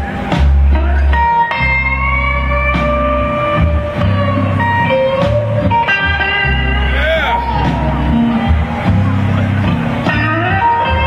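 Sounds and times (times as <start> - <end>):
electric guitar lead: 0.0 - 11.0
low bass line: 0.0 - 11.0.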